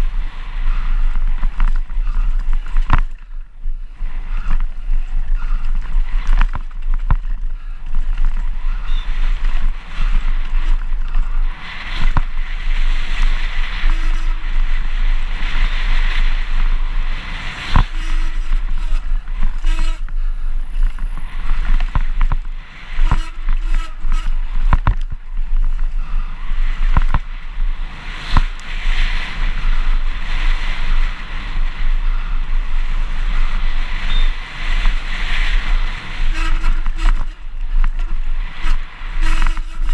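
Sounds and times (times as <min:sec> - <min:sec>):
wind buffeting microphone: 0:00.0 - 0:39.9
bike knocking and clattering: 0:00.7 - 0:16.2, 0:17.6 - 0:30.0, 0:33.0 - 0:39.9.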